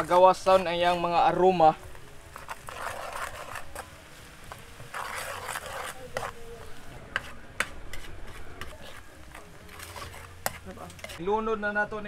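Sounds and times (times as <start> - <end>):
metal spatula scraping a wok: 0.0 - 1.5, 2.3 - 11.2.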